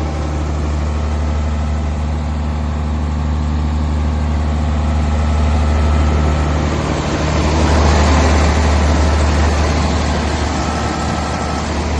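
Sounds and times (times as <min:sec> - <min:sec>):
diesel generator engine running: 0:00.0 - 0:11.9.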